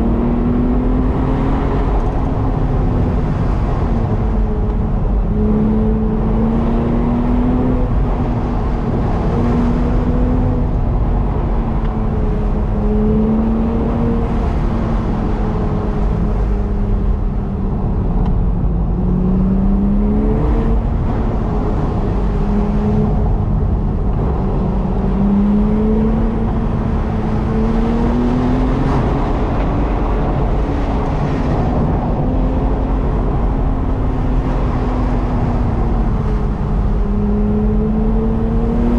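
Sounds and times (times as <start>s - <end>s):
car engine: 0.0s - 38.9s
tyre road noise: 0.0s - 38.9s.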